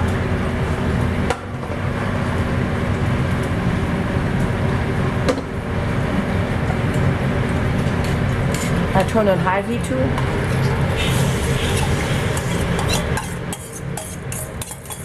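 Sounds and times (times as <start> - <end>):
mechanical hum and whir: 0.0 - 15.0.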